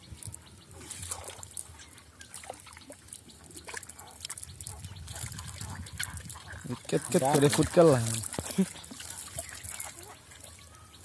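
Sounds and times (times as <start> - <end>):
small splashes and patters: 0.0 - 11.0
water trickling and dripping: 0.0 - 11.0.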